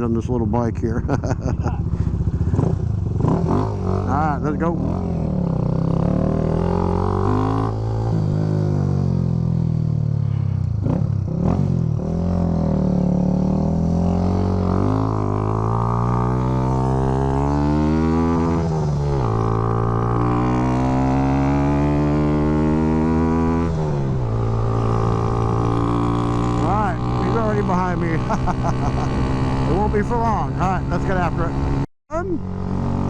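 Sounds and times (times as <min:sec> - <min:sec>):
motorcycle engine accelerating: 0:00.5 - 0:33.0.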